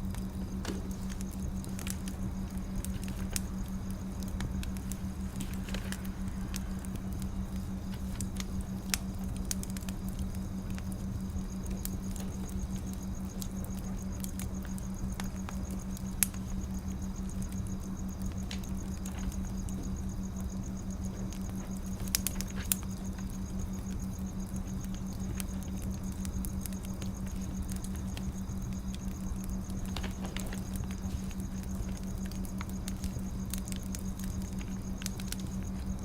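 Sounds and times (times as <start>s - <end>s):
firewood crackling: 0.0s - 36.0s
low hum: 0.0s - 36.0s.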